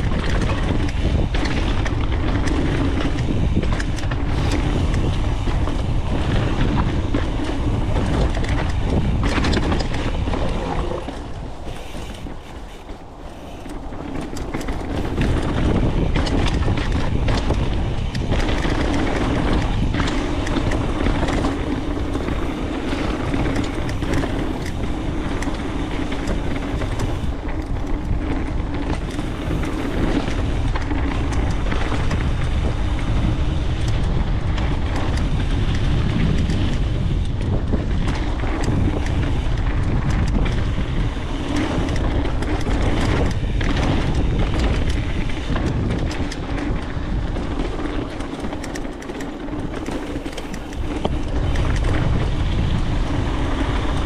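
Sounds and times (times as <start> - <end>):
bike knocks and rattles: 0.0 - 54.0
bike tyres rolling over dirt: 0.0 - 54.0
wind rushing over microphone: 0.0 - 54.0.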